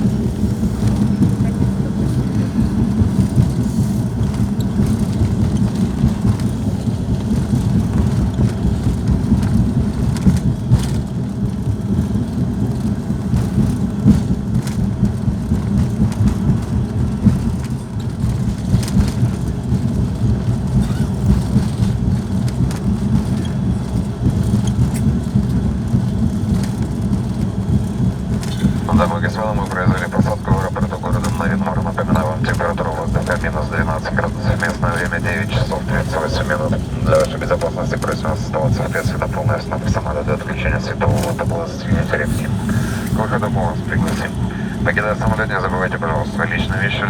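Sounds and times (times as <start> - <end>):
airliner cabin rumble: 0.0 - 47.0.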